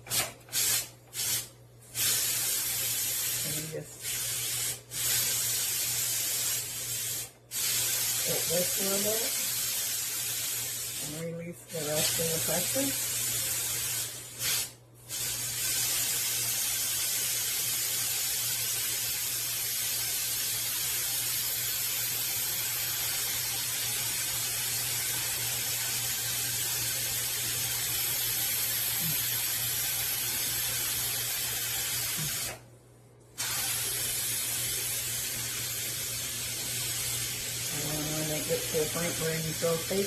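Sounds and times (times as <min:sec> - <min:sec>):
steam hissing from valve: 0:00.1 - 0:32.6, 0:33.4 - 0:40.0.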